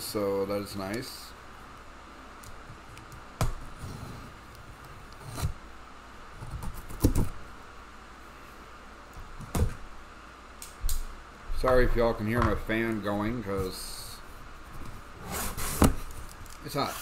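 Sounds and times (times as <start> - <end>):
room fan hum: 0.0 - 17.0.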